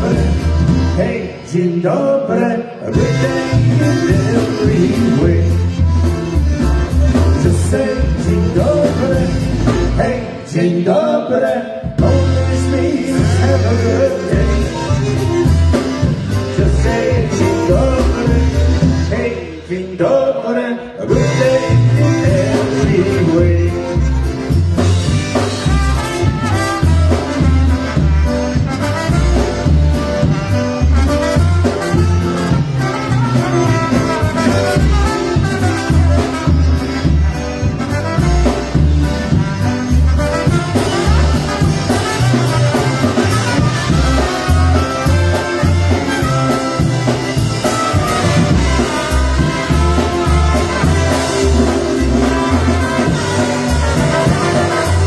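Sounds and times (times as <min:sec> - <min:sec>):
trumpet: 0:00.0 - 0:10.6, 0:11.9 - 0:19.8, 0:21.0 - 0:55.0
polka band playing: 0:00.0 - 0:20.2, 0:21.0 - 0:55.0.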